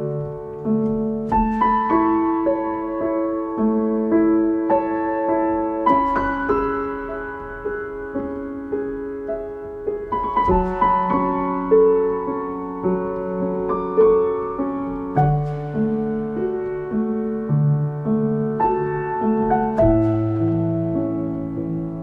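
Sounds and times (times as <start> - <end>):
slow gentle piano: 0.0 - 22.0.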